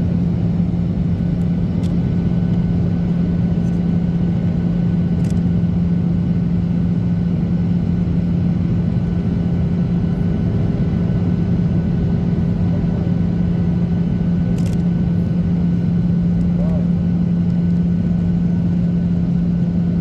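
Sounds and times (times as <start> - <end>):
constant low hum: 0.0 - 20.0
jet engines droning: 0.0 - 20.0.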